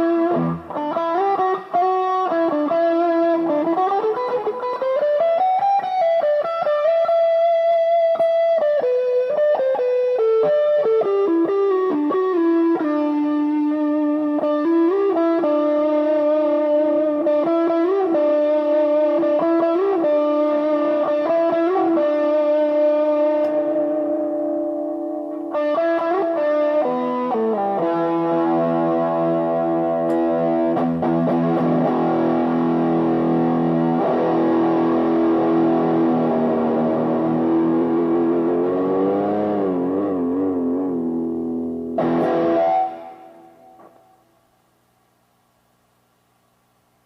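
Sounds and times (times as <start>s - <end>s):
distorted electric guitar melody: 0.0s - 44.5s.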